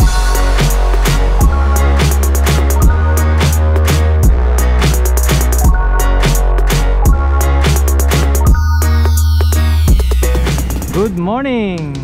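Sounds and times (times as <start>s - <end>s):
deep held bass: 0.0s - 12.0s
drum-machine beat: 0.0s - 12.0s
electronic music: 0.0s - 12.0s.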